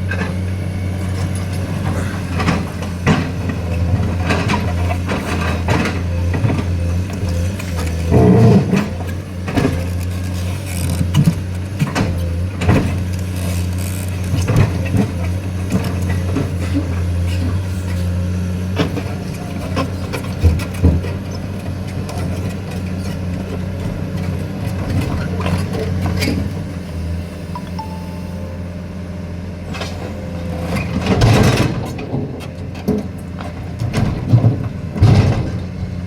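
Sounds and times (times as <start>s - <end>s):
diesel machinery engine running: 0.0s - 36.0s.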